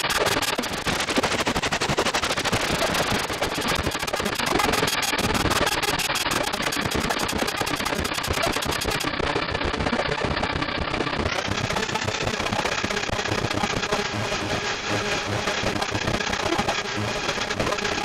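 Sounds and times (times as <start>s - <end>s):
distorted synthesizer clicks and crackles: 0.0s - 18.0s.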